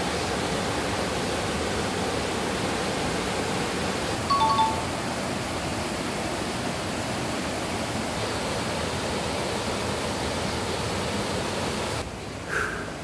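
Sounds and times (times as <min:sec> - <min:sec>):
stream rushing over rocks: 0:00.0 - 0:12.4.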